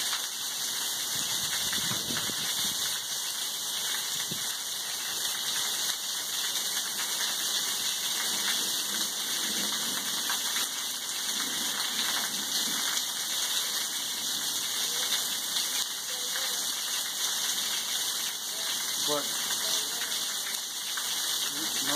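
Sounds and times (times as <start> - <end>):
rain falling: 0.0 - 21.9
raindrops striking hard surfaces: 0.0 - 21.9.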